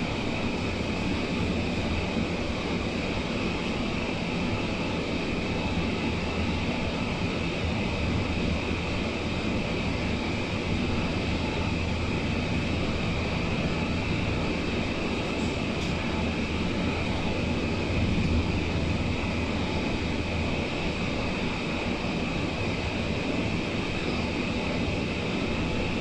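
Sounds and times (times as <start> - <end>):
steady high whine: 0.0 - 26.0
train cabin rumble: 0.0 - 26.0.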